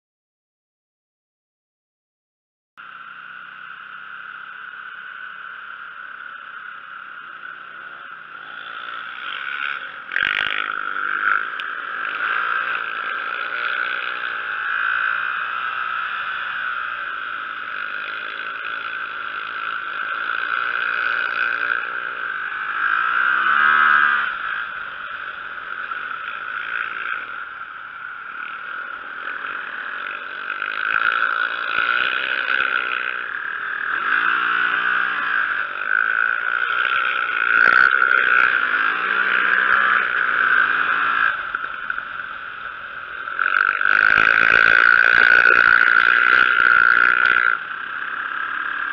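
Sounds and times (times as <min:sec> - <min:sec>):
motorcycle engine revving: 0:02.8 - 0:48.9.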